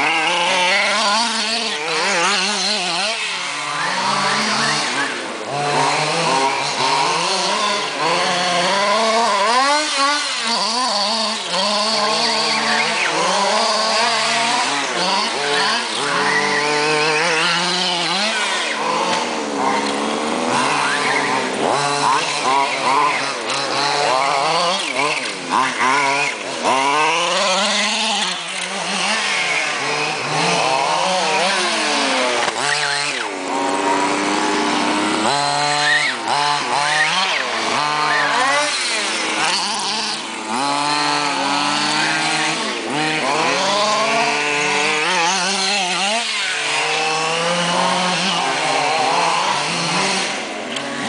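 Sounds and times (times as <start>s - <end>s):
small nitro engines revving: 0.0s - 51.0s.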